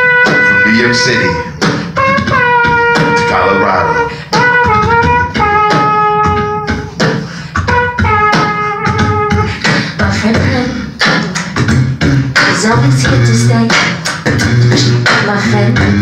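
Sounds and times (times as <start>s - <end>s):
beatboxing kicks and snares: 0.0s - 16.0s.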